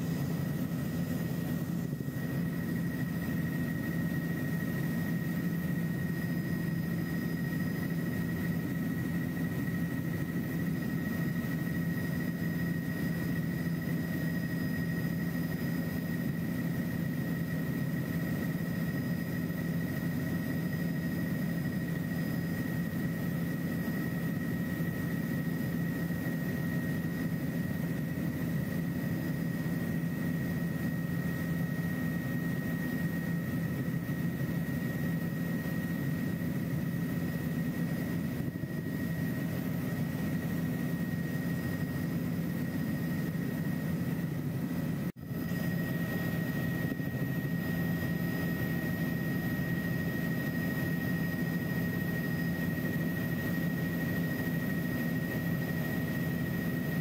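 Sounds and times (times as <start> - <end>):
helicopter cabin drone: 0.0 - 57.0
high whine: 0.0 - 57.0.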